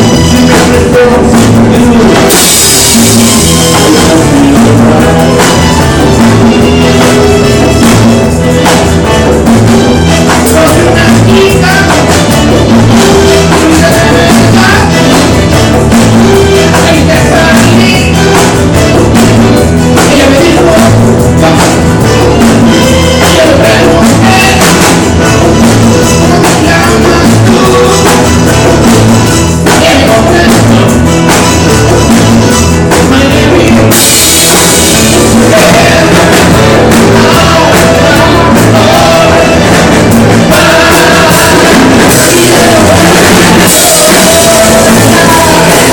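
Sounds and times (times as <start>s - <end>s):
drum kit: 0.0s - 45.9s
loud rock music: 0.0s - 45.9s
person singing: 0.0s - 45.9s.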